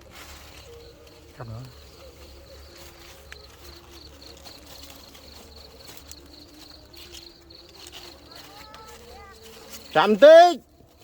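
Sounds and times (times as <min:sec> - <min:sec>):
fainter low insect calls: 0:00.0 - 0:11.0
insects trilling: 0:00.0 - 0:11.0.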